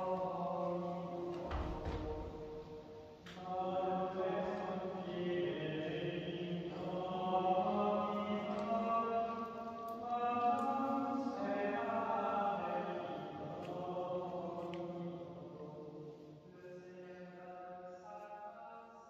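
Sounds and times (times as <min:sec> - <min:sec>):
group chanting in echoing church: 0:00.0 - 0:19.0.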